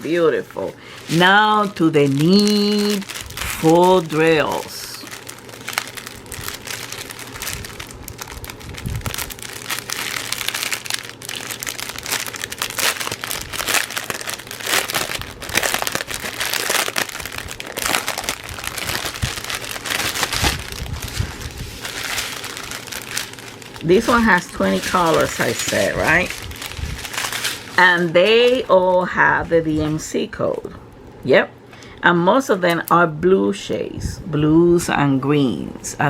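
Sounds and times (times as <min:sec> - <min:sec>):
plastic packaging crinkling: 0:00.0 - 0:31.0.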